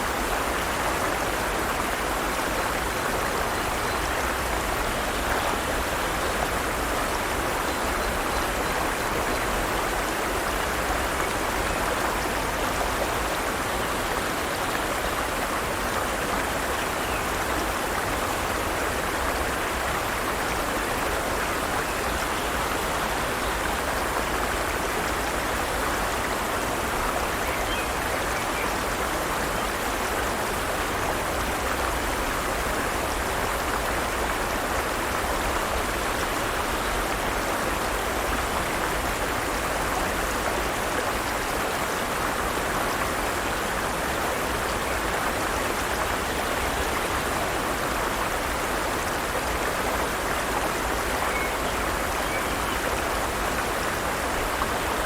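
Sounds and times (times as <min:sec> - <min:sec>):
forest stream flowing: 0:00.0 - 0:55.0.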